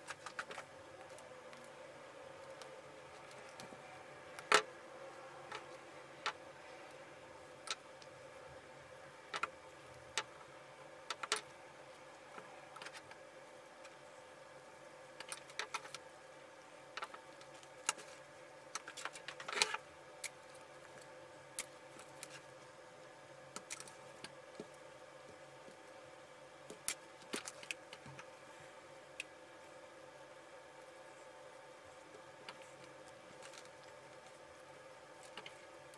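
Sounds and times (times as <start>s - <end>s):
faint steady hum: 0.0s - 35.9s.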